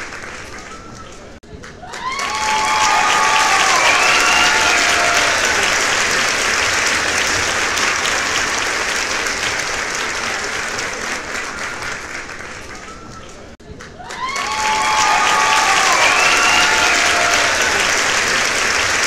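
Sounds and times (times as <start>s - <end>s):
crowd applause: 0.0s - 19.0s.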